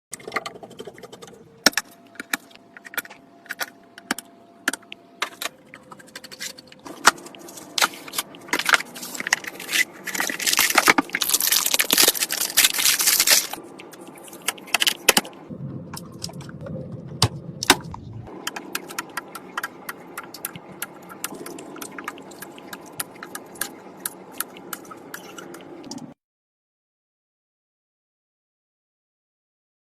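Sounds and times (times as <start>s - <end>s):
computer hardware clicking and clattering: 0.1s - 26.1s.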